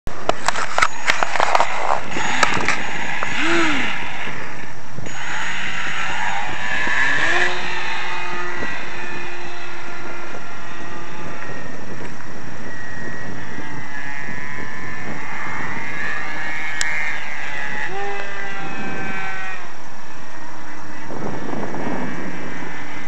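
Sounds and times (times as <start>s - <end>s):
steady rushing noise: 0.1s - 23.0s
model plane motor whine: 0.2s - 23.0s.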